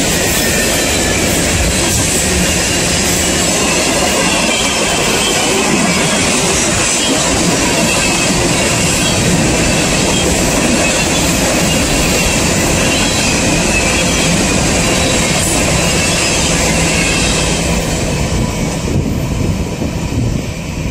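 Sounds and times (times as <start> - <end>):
high wheel squeal: 0.0 - 18.1
train wheels rumbling and rattling: 0.0 - 20.9.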